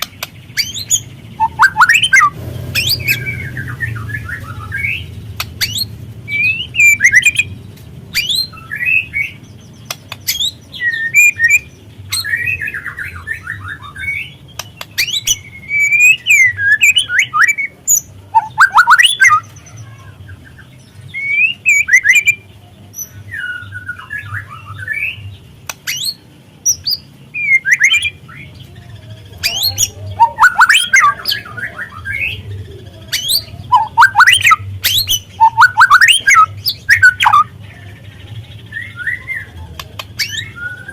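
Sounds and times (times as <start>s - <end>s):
bird song whistling and chattering: 0.0s - 19.6s, 20.4s - 28.6s, 29.4s - 37.8s, 38.5s - 40.9s.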